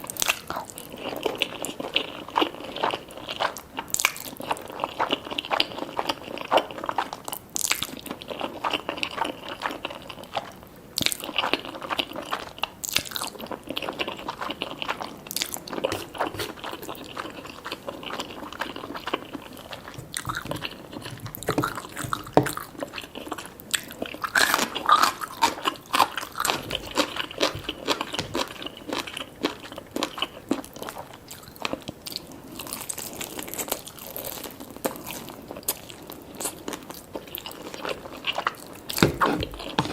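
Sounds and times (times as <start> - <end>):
crunching bites and chewing: 2.3 - 39.9.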